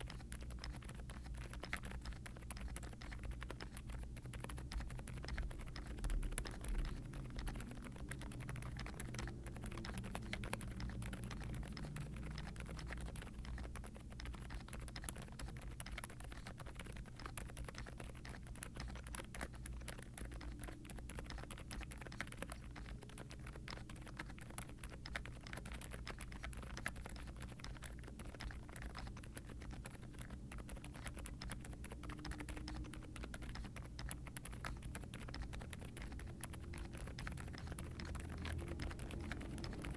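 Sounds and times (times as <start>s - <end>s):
soft fast keyboard typing: 0.0s - 39.9s.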